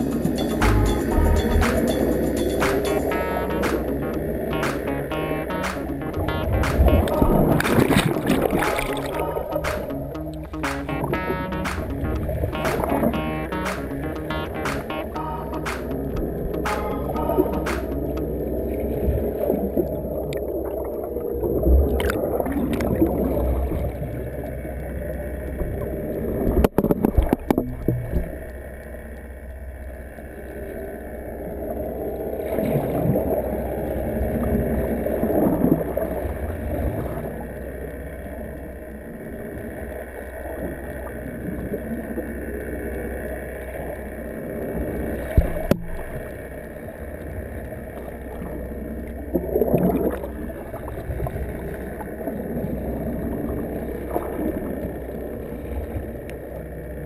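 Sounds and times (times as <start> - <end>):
muffled underwater water noise: 0.0 - 57.0.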